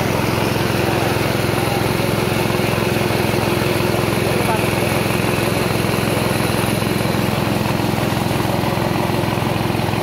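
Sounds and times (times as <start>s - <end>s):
rice milling machine engine running: 0.0s - 10.0s.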